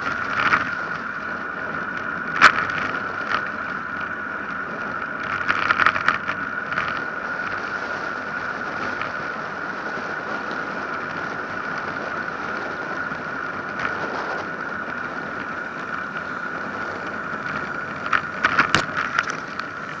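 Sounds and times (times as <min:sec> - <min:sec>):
bicycle clicks and rattles: 0:00.0 - 0:20.0
bicycle tyre noise on asphalt: 0:00.0 - 0:20.0
high whine: 0:00.0 - 0:20.0.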